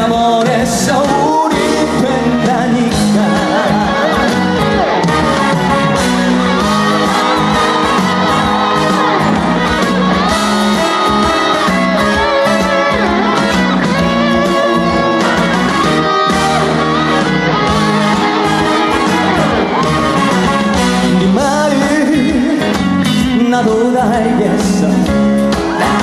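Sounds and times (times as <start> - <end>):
band playing melodic lead line: 0.0 - 26.0.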